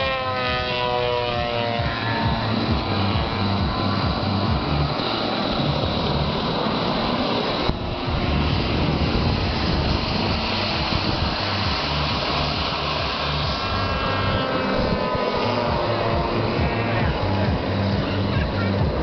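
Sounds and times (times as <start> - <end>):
toy aeroplane motor and propeller: 0.0 - 19.0.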